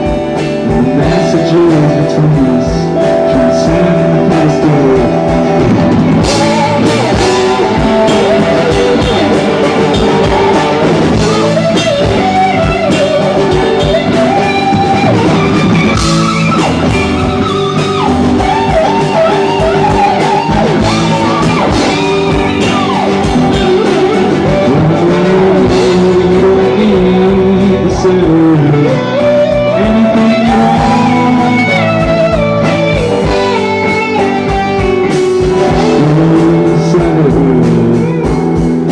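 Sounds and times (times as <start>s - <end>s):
drums: 0.0s - 38.9s
electric guitar: 0.0s - 38.9s
person singing: 0.3s - 38.5s.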